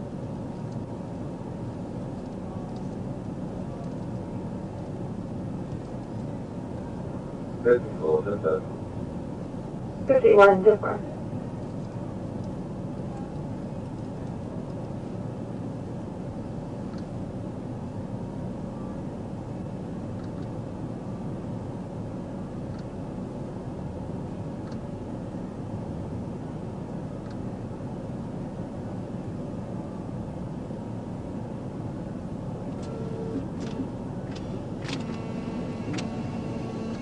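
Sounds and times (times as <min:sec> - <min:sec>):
vehicle idling: 0:00.0 - 0:37.0.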